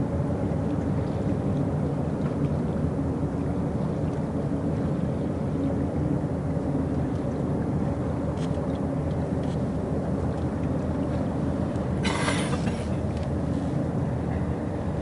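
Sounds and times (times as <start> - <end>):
water rushing past hull: 0.0 - 15.0.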